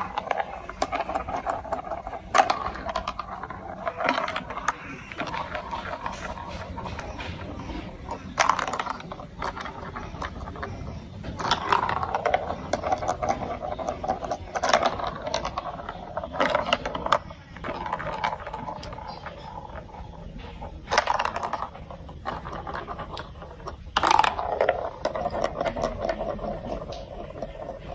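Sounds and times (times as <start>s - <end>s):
plastic pieces clicking and rattling: 0.0s - 27.9s.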